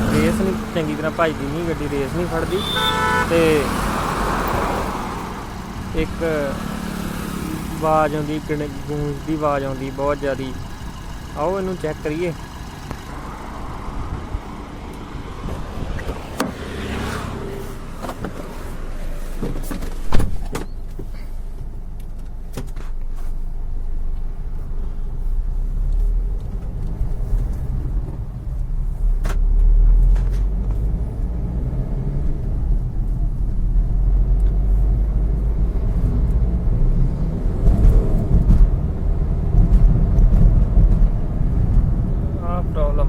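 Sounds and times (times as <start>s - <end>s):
car engine rumbling: 0.0s - 43.0s.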